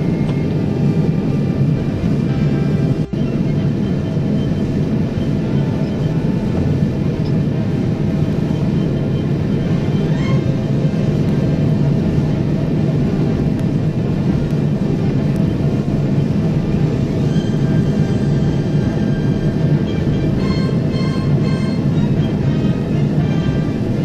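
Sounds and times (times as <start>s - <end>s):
gas fire roaring: 0.0s - 24.0s.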